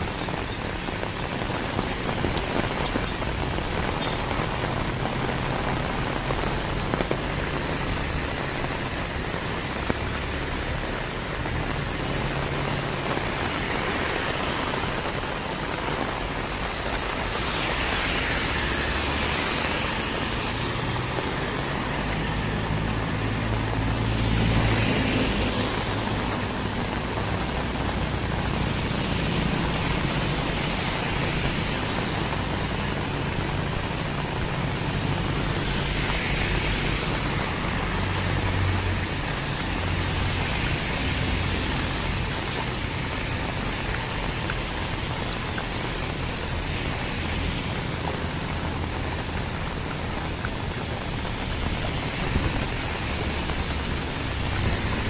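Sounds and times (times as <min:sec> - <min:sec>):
heavy rain falling: 0:00.0 - 0:55.0
tyres swishing on wet road: 0:00.0 - 0:55.0
vehicle engine hum: 0:00.0 - 0:55.0.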